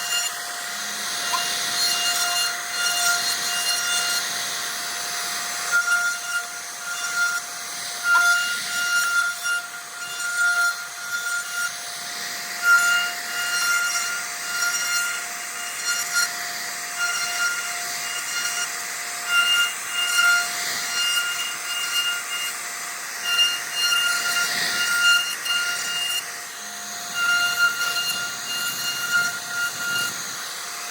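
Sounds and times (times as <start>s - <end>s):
bit cutting wood hiss: 0.0s - 30.9s
router spindle whine: 0.0s - 30.9s.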